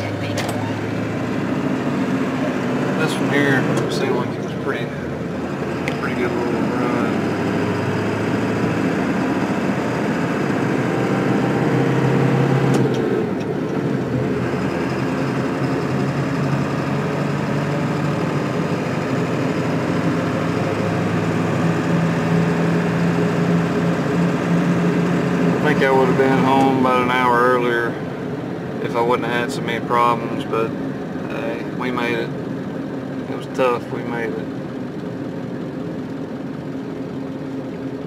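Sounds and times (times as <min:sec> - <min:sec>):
road noise: 0:00.0 - 0:38.0
truck engine hum from inside cab: 0:00.0 - 0:38.0.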